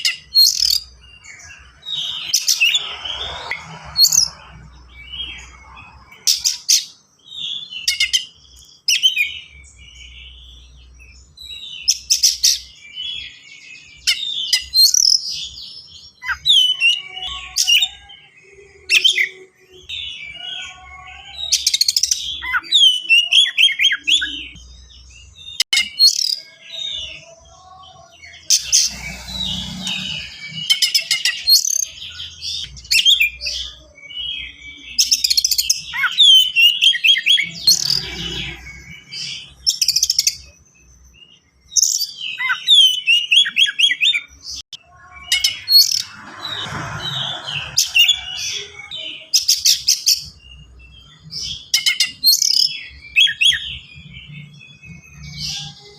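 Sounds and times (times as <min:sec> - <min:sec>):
magpie-robin singing: 0:00.0 - 0:46.6, 0:47.8 - 0:55.9.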